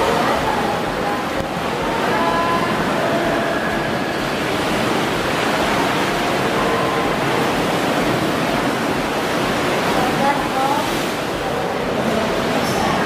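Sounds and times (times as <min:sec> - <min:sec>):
waves rushing through sea cave: 0:00.0 - 0:13.0.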